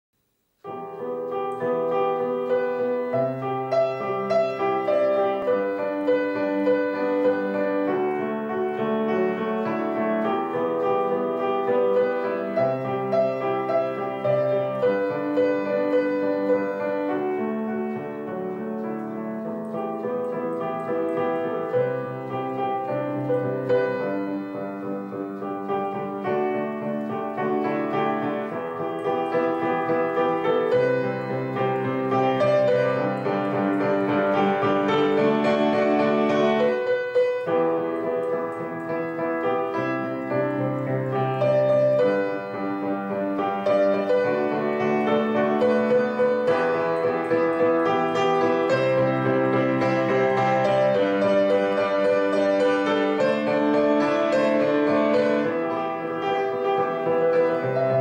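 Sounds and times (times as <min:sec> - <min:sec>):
piano music with held chords: 0:00.4 - 0:58.0.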